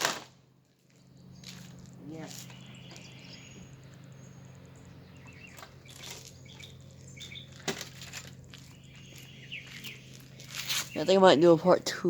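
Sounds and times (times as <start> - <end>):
birds chirping faintly: 0.8 - 12.0.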